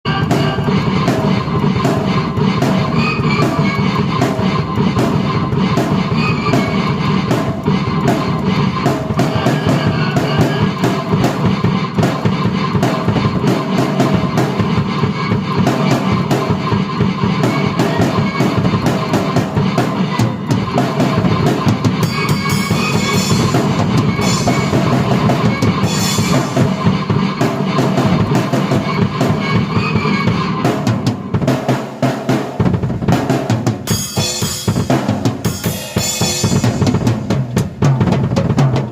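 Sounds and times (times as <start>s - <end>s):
rock drum beat: 0.0s - 38.9s
cymbals ringing: 0.1s - 31.8s, 33.8s - 37.4s.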